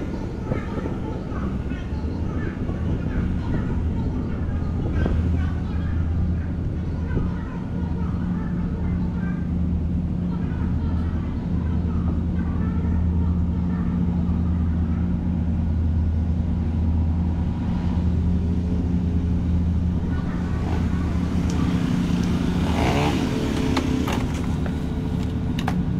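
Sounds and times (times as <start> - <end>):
ship engines droning: 0.0 - 25.9.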